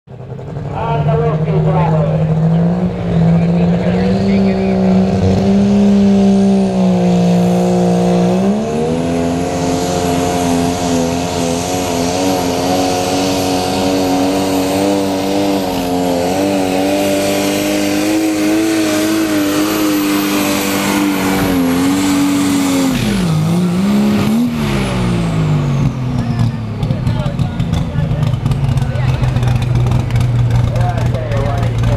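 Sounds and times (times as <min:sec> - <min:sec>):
tractor engine at full power: 0:00.0 - 0:31.9.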